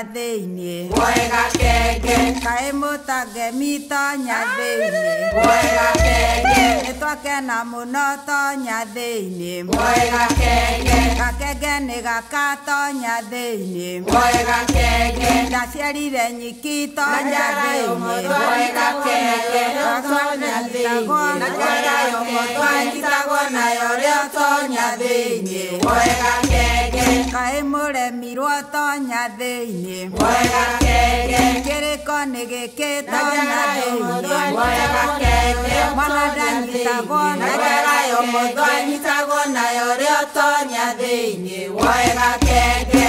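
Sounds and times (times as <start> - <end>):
song with singing voices: 0.0 - 43.0.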